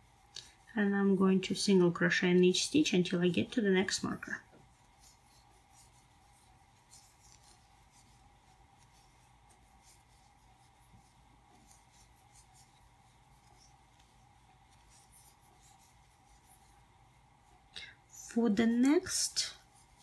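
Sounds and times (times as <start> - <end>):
crochet hook rubbing yarn: 0.0 - 20.0
faint hum: 0.0 - 20.0.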